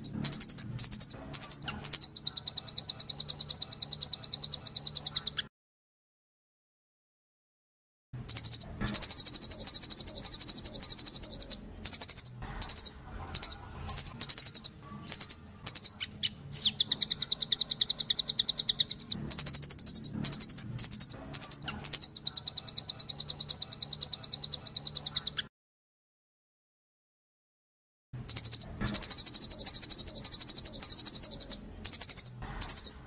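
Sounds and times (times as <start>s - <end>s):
bird singing fast trills: 0.0s - 5.5s, 8.2s - 25.5s, 28.2s - 33.0s.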